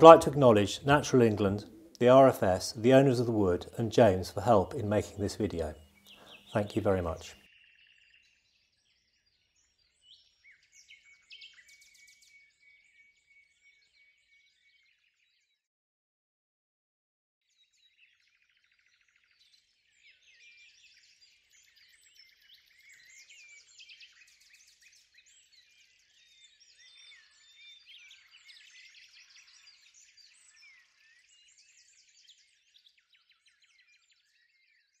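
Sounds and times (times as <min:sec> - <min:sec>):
chorus of songbirds: 0:00.0 - 0:15.6, 0:17.5 - 0:35.0.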